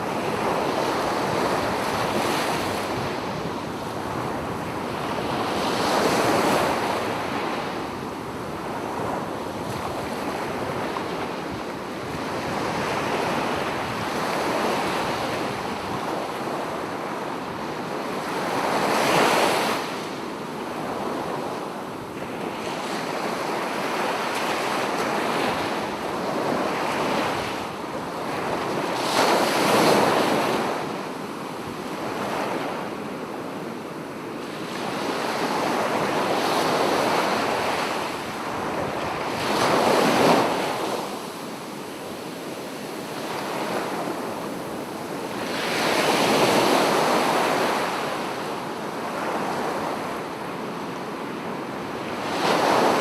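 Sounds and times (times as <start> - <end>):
waves breaking on a beach: 0.0 - 53.0.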